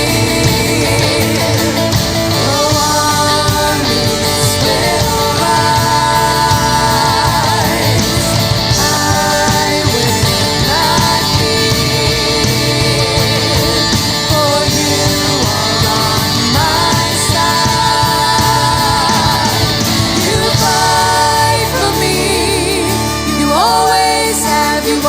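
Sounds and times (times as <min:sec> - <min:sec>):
rock-style worship band: 0:00.0 - 0:25.0.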